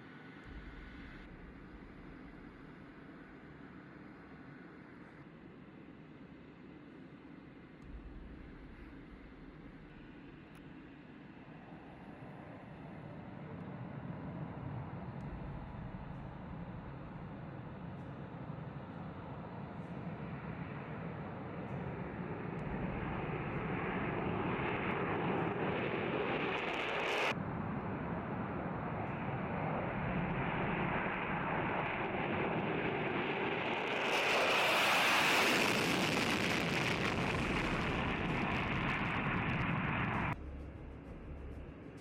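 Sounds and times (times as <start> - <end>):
jet engine drone: 7.8 - 42.0.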